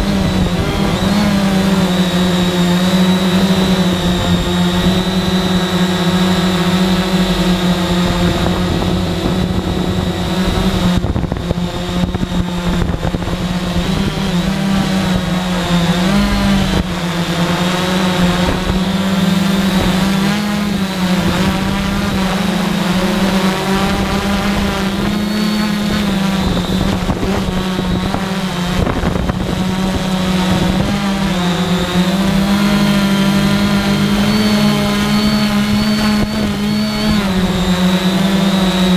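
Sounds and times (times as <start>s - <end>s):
drone motors and propellers: 0.0s - 38.9s.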